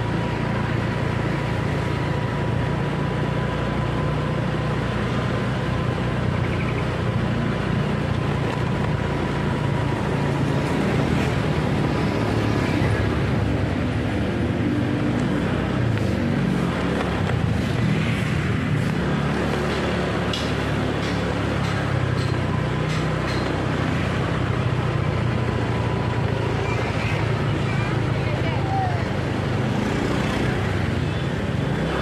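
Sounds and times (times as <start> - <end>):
road and wind noise: 0.0 - 32.0
vehicle engine running: 0.0 - 32.0.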